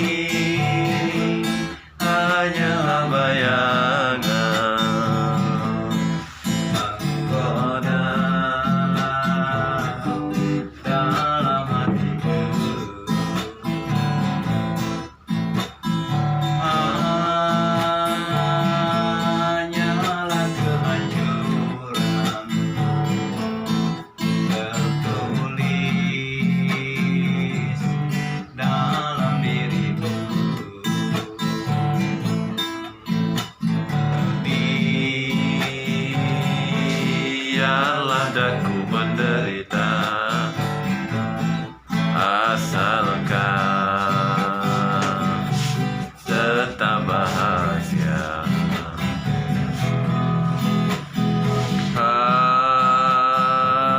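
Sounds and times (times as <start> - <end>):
acoustic guitar music: 0.0 - 53.9.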